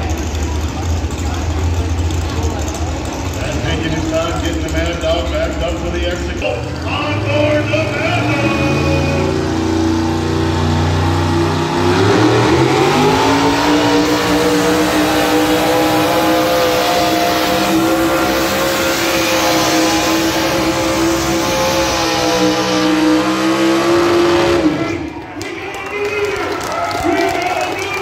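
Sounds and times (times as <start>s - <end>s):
truck engine revving hard: 0.0s - 25.3s.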